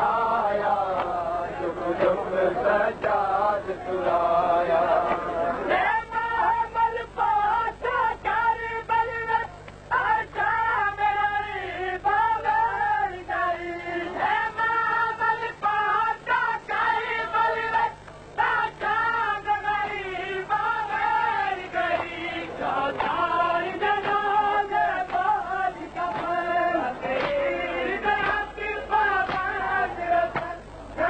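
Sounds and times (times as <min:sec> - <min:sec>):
high voice singing a lament: 0:00.0 - 0:31.0.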